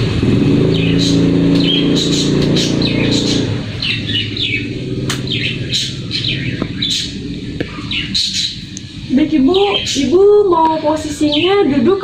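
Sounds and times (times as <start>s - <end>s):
motor vehicle engine running: 0.0s - 12.0s
small birds chirping: 0.0s - 12.0s.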